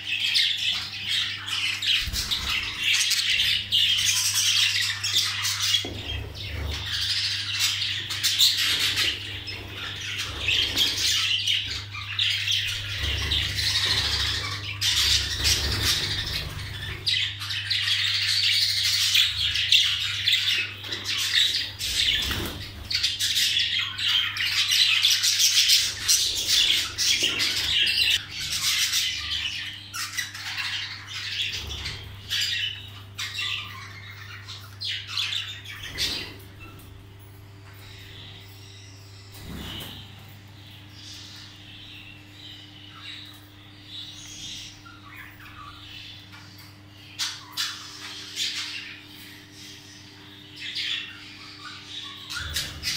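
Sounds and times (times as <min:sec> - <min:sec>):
budgerigars chattering: 0:00.0 - 0:52.9
steady low hum: 0:00.0 - 0:52.9.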